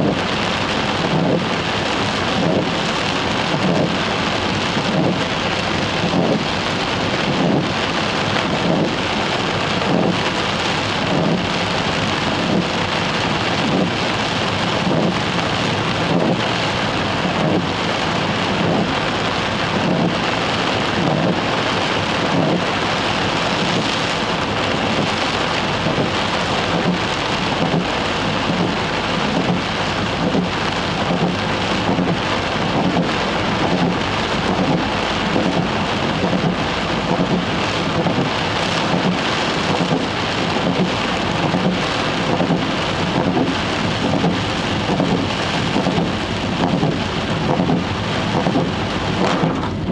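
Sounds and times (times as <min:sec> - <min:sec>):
heavy rain on car roof: 0:00.0 - 0:49.9.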